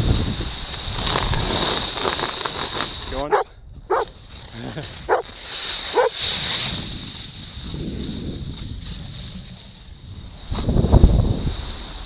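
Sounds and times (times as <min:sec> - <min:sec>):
snowboard sliding on snow: 0:00.0 - 0:03.3, 0:04.2 - 0:12.0
wind on microphone: 0:00.0 - 0:04.3, 0:06.0 - 0:12.0.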